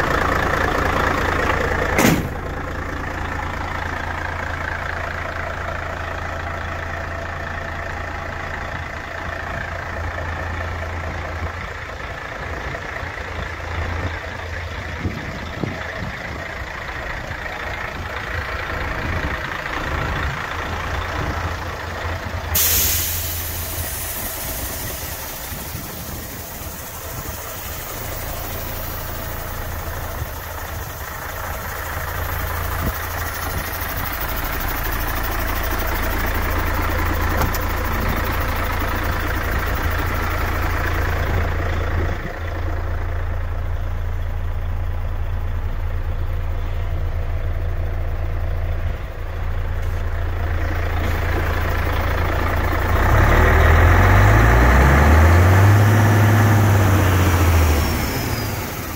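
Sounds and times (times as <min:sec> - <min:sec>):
truck diesel engine idling: 0:00.0 - 0:58.9.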